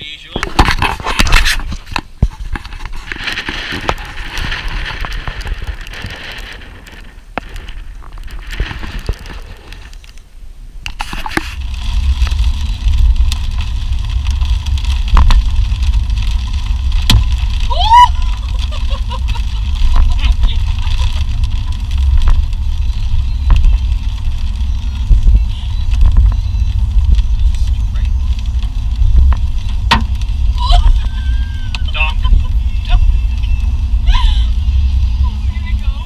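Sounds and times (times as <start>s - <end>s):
vehicle rumbling while moving: 0.0s - 36.0s.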